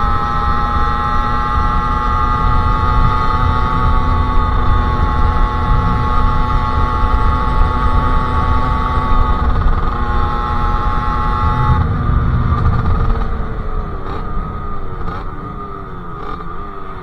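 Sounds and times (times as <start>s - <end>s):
two-stroke motorbike engine: 0.0s - 17.0s.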